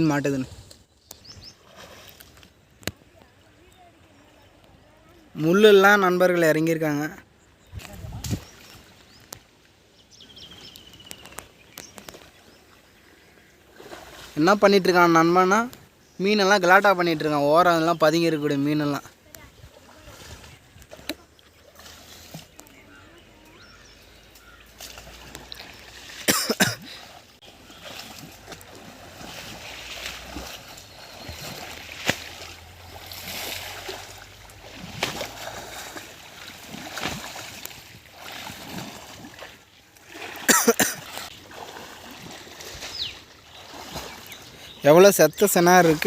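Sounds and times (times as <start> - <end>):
water splashing and sloshing: 0.0 - 5.3, 7.6 - 16.0, 18.7 - 46.0.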